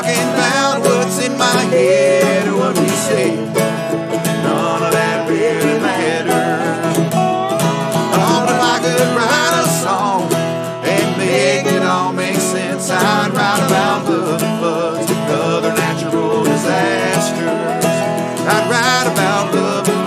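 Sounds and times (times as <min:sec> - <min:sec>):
bluegrass string band playing: 0:00.0 - 0:20.0.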